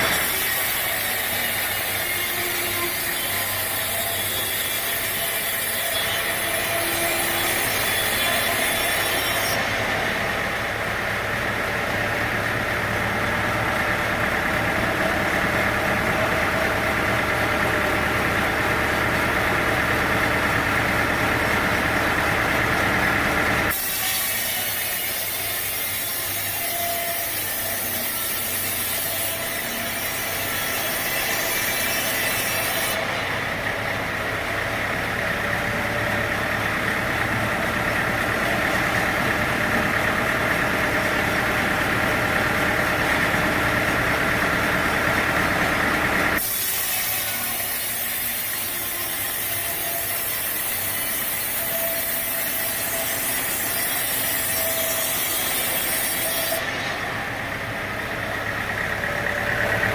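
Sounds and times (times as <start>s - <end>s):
saw cutting wood: 0.0s - 59.9s
sawmill machinery running: 0.0s - 59.9s.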